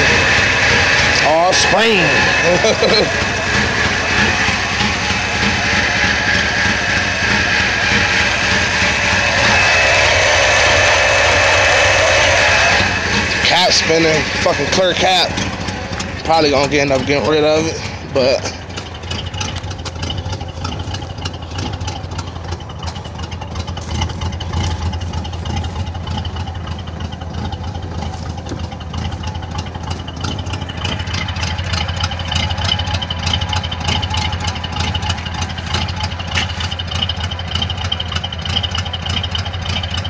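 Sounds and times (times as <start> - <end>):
car engine idling: 0.0 - 40.0
power steering pump whine: 0.0 - 40.0.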